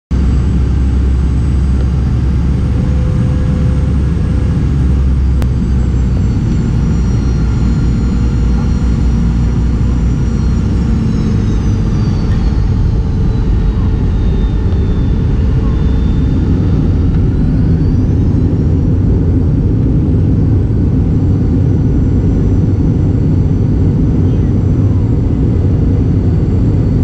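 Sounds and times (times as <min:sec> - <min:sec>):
jet engine rumble and fan whine: 0:00.1 - 0:27.0.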